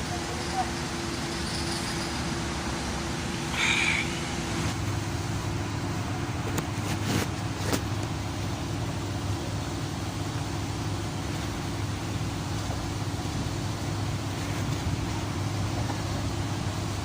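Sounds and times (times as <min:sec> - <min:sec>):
low mechanical drone: 0:00.0 - 0:17.0.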